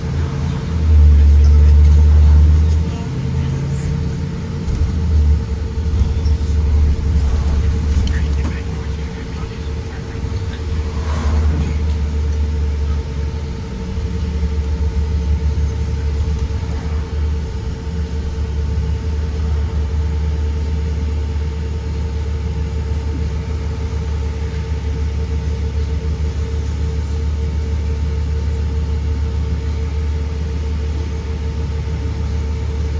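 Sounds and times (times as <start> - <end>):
bus rumble: 0.0 - 32.9
constant hum: 0.0 - 32.9.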